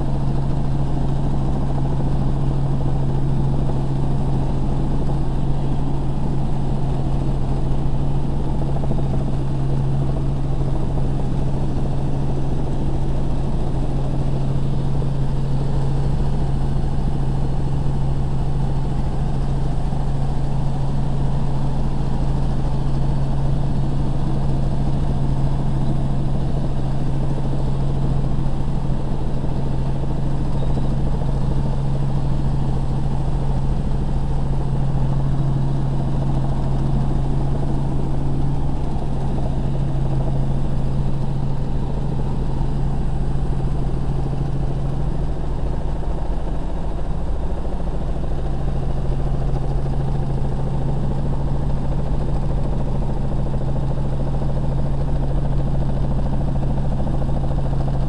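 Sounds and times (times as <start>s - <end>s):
helicopter cabin drone: 0.0s - 58.0s
rotor and engine noise: 0.0s - 58.0s.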